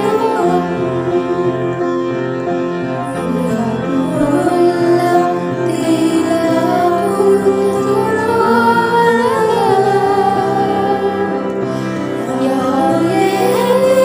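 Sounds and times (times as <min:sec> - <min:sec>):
girls' choir singing: 0:00.0 - 0:14.0.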